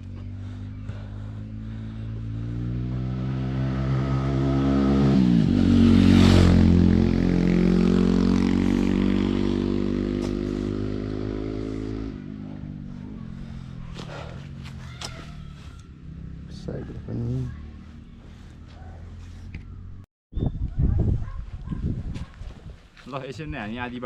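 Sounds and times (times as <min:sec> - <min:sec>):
vehicle engine passing by: 0:00.0 - 0:20.0.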